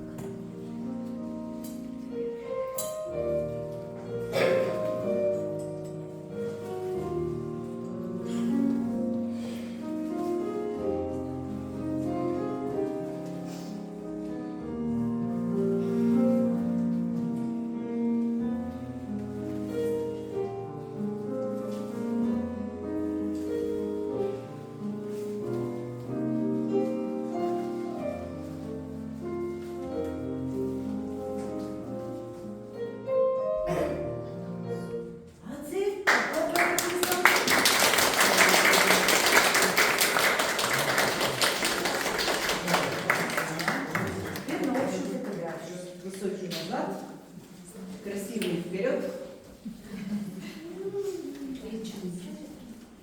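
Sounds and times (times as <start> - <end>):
classical piano music: 0.0 - 53.0.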